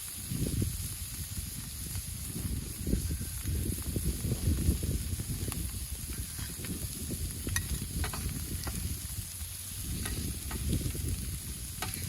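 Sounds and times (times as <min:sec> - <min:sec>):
food sizzling in butter: 0:00.0 - 0:12.0
popping and crackling: 0:00.0 - 0:12.0.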